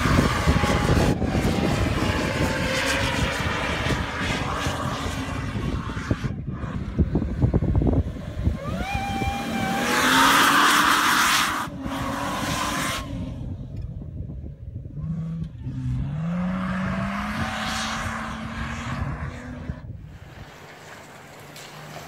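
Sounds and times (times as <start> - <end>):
engine revving with supercharger whine: 0.0 - 20.0.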